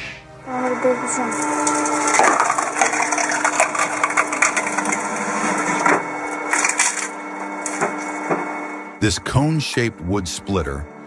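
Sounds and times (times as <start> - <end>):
log splitter motor humming: 0.5 - 11.0.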